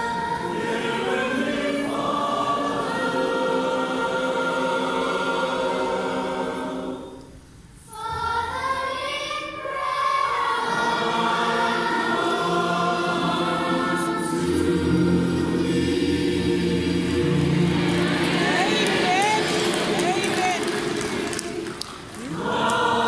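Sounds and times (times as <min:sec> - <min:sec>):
children's choir singing: 0:00.0 - 0:23.0.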